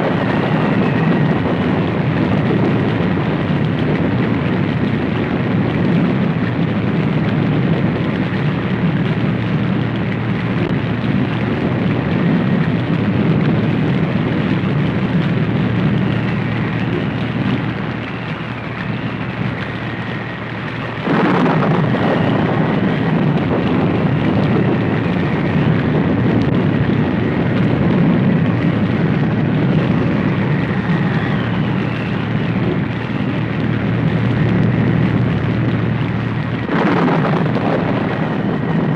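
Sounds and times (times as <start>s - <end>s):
deep continuous rumble: 0.0s - 38.9s.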